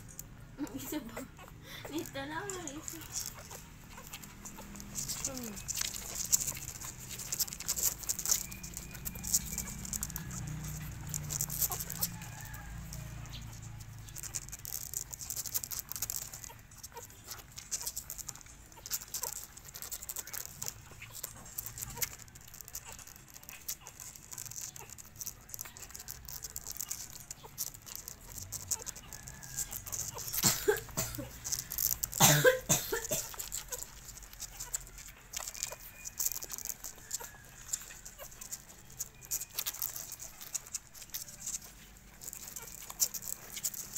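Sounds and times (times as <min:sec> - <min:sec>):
puppies squeaking and whimpering: 0:00.0 - 0:43.9
puppies suckling wet smacking: 0:00.0 - 0:43.9.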